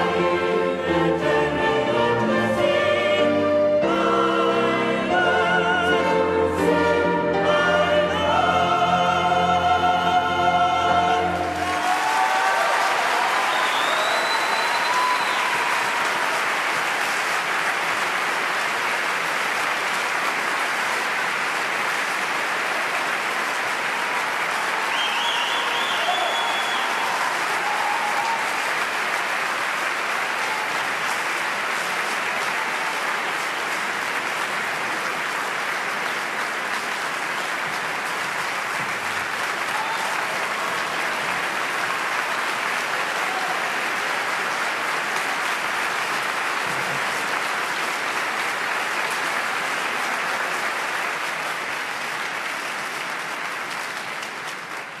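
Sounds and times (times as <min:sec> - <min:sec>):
audience applauding: 0:11.0 - 0:55.0.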